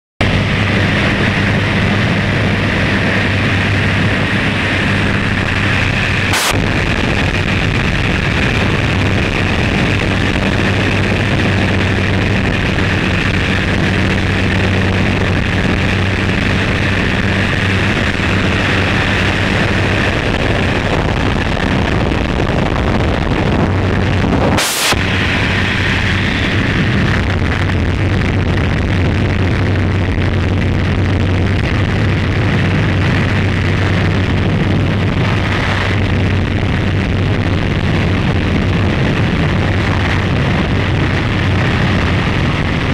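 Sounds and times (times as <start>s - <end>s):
aircraft engine drone: 0.2s - 42.9s
rushing air: 0.2s - 42.9s.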